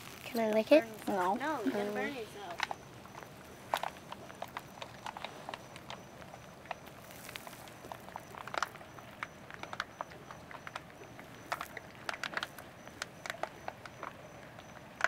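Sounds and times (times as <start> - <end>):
foil pouch crinkling and clicking: 0.0 - 15.0.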